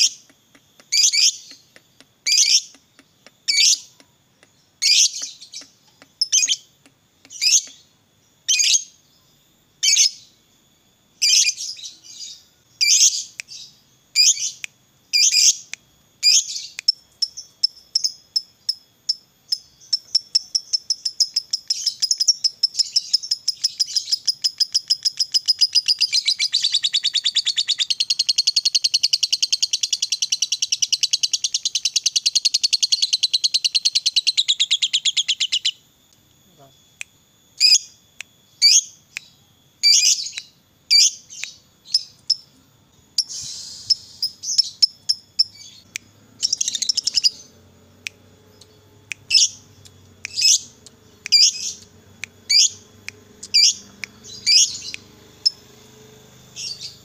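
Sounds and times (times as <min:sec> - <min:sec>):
lovebird chirping and trilling: 0:00.9 - 0:02.8, 0:03.5 - 0:03.9, 0:04.6 - 0:06.7, 0:07.3 - 0:07.8, 0:08.4 - 0:09.0, 0:09.8 - 0:10.3, 0:11.2 - 0:35.8, 0:38.6 - 0:42.5, 0:43.2 - 0:47.6, 0:48.5 - 0:57.0.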